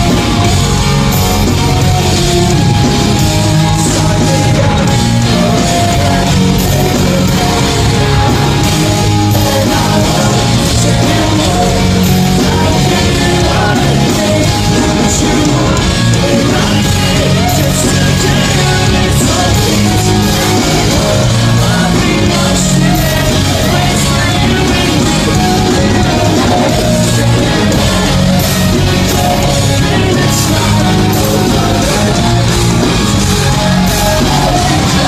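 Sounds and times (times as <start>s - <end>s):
bass guitar: 0.0s - 35.0s
distorted electric guitars: 0.0s - 35.0s
drums: 0.0s - 35.0s
person singing: 0.0s - 35.0s.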